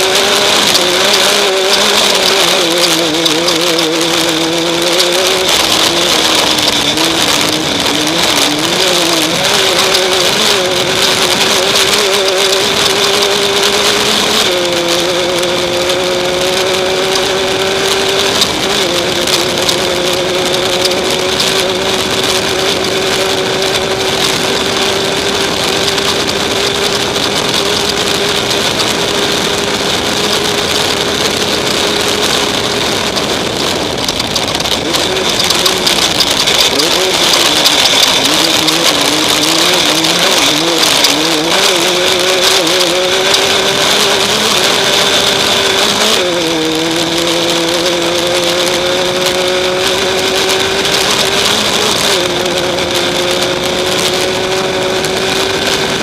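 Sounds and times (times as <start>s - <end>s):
vehicle engine running hard: 0.0s - 56.0s
wind and terrain noise: 0.0s - 56.0s.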